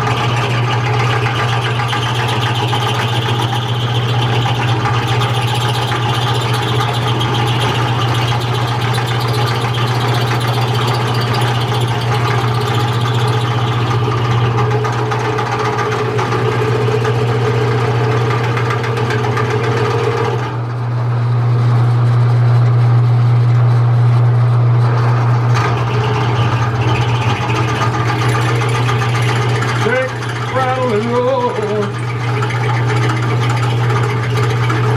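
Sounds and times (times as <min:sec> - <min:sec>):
machine low hum: 0:00.0 - 0:34.9.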